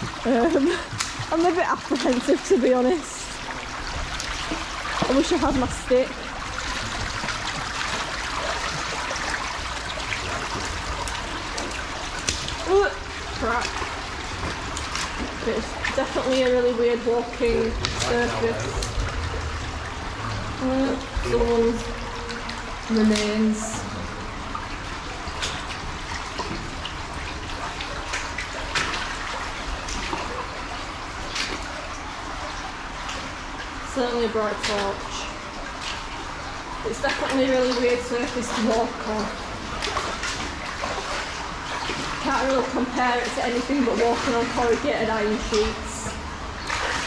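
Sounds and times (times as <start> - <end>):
splashing footsteps: 0.0 - 33.4, 34.0 - 47.0
brook water trickling: 0.0 - 47.0.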